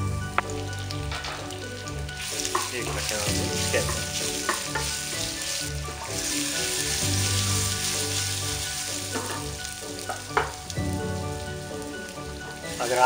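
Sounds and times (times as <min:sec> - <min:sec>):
fruit sizzling in hot oil: 0:00.0 - 0:13.0.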